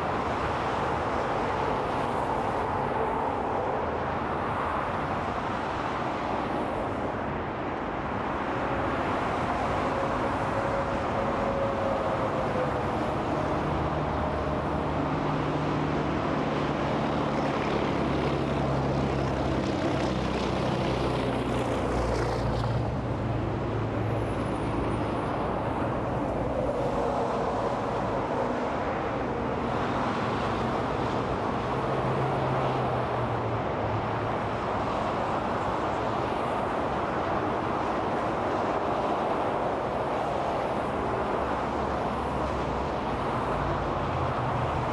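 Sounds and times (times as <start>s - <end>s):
tyre noise of freeway traffic: 0.0s - 44.9s.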